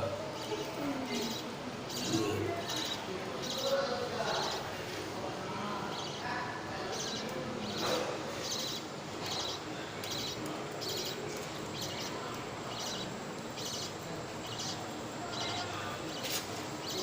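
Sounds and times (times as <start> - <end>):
budgies chirping: 0.4 - 4.7, 6.8 - 17.0.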